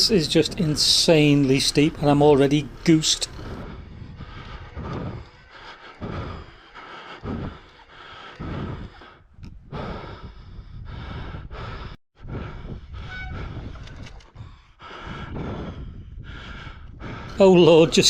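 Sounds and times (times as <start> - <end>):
person breathing hard: 2.7 - 17.4.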